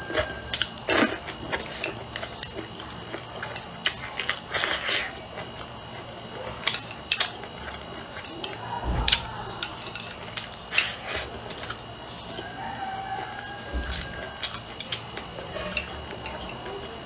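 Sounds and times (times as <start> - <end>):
close-up eating sounds: 0.0 - 17.0.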